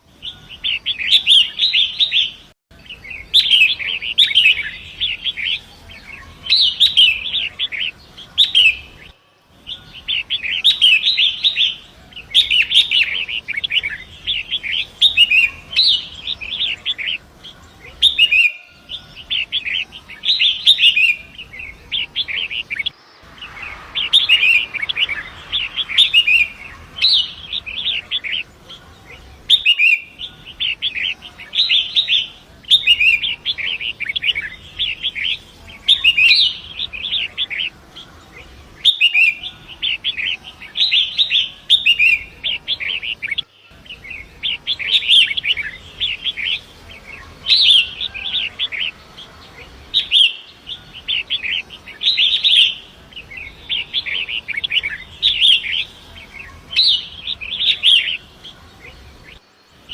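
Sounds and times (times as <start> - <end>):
bird singing scratchy chattering phrases: 0.0 - 59.9.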